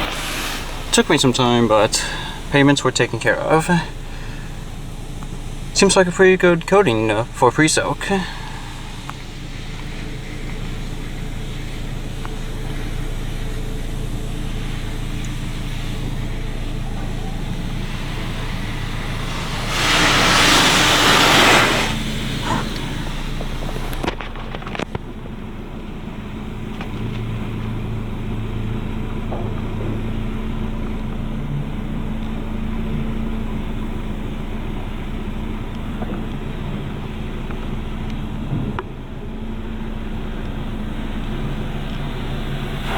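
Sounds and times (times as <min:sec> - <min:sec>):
car wash machine hum: 0:00.0 - 0:42.9
steady high hiss: 0:00.0 - 0:42.9
water spray hissing over car: 0:00.0 - 0:42.9.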